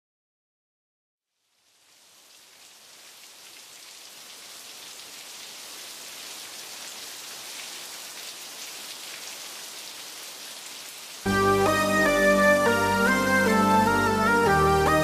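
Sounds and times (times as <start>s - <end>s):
rain falling: 1.3s - 15.0s.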